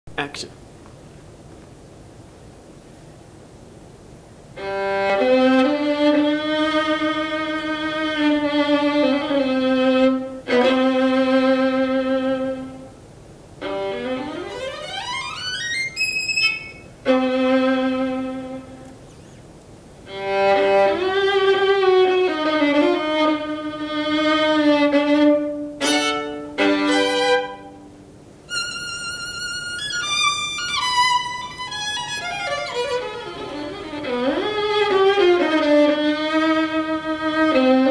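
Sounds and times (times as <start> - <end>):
solo violin: 4.5 - 13.0, 13.6 - 19.2, 20.0 - 37.9.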